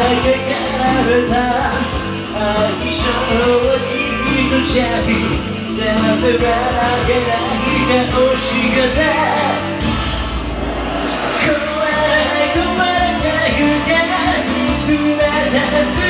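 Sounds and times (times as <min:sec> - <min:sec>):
man singing rock song: 0:00.0 - 0:09.8, 0:11.4 - 0:16.0
band backing track: 0:00.0 - 0:16.0.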